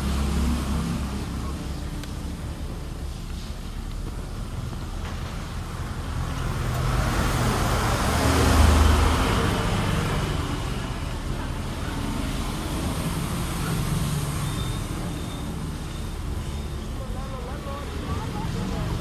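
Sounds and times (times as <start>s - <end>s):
road noise: 0.0s - 19.0s
vehicle engine passing: 0.0s - 19.0s.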